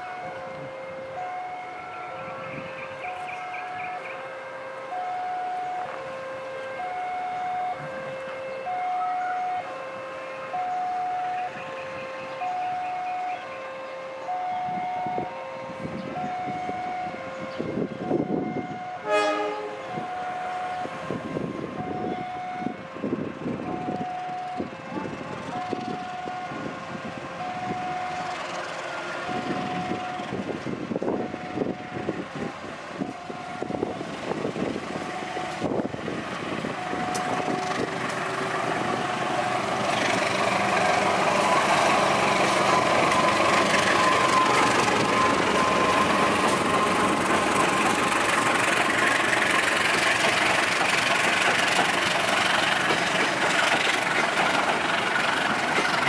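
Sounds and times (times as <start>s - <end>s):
level crossing warning tone: 0.0s - 56.0s
locomotive passing: 0.0s - 56.0s
wheels rumbling on rails: 0.0s - 56.0s.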